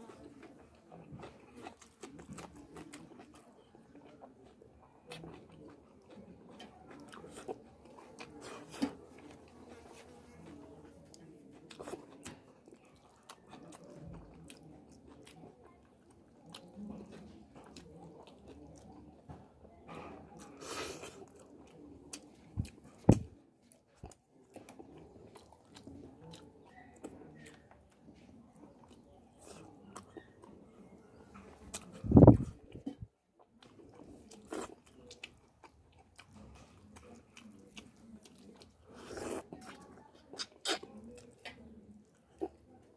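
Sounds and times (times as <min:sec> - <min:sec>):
man chewing food: 0:00.0 - 0:19.4, 0:20.0 - 0:42.9.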